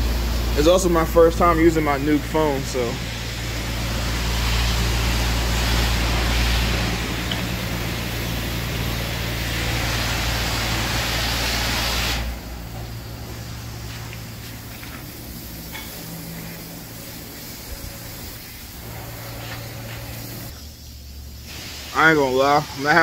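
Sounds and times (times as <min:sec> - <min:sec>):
high-pressure spray hissing: 0:00.0 - 0:23.0.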